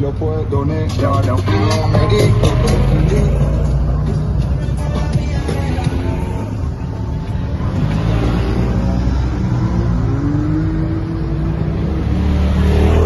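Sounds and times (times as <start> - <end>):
off-road vehicle engines: 0.0 - 13.0.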